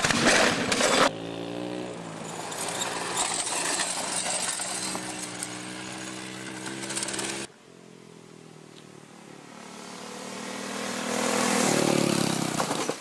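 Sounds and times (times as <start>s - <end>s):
small engine running hard: 0.0s - 7.5s, 9.3s - 13.0s.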